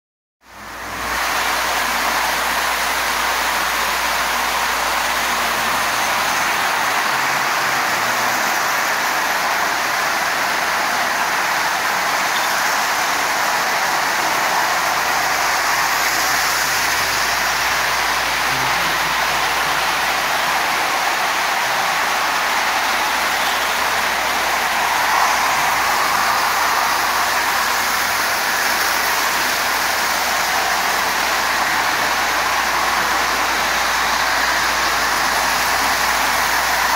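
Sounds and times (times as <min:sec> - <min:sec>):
toy trains rattling on metal track: 0:01.5 - 0:36.9.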